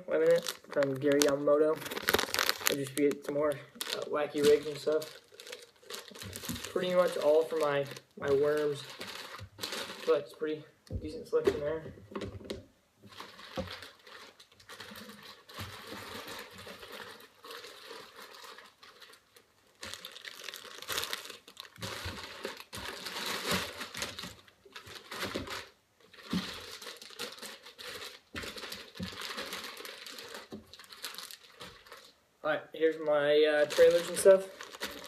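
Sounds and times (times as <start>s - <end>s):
plastic bags crinkling: 0.0s - 12.4s, 13.0s - 32.2s, 32.9s - 35.0s.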